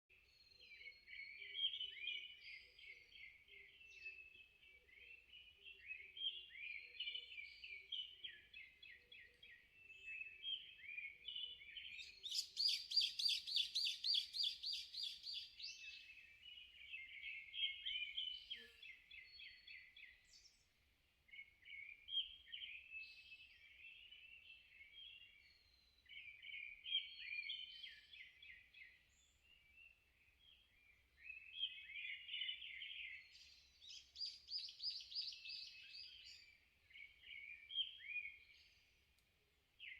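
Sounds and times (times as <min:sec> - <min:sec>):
songbirds chattering and warbling: 0:00.1 - 0:39.9.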